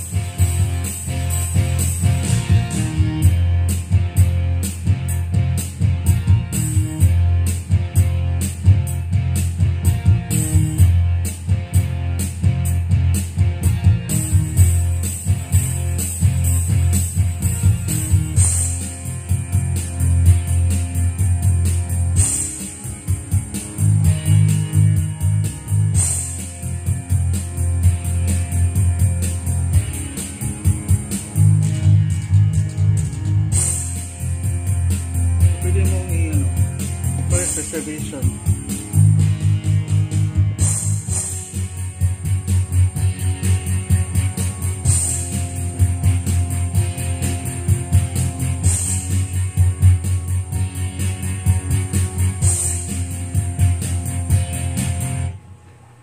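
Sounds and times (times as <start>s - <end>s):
drum beat: 0.0s - 55.3s
band music with guitar: 0.0s - 55.4s
bass line: 0.0s - 55.4s.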